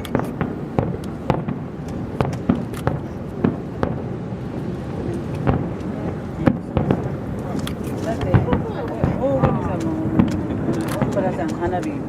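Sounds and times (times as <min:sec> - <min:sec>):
fireworks bangs and cracks: 0:00.0 - 0:12.0
low rumble: 0:00.0 - 0:12.0.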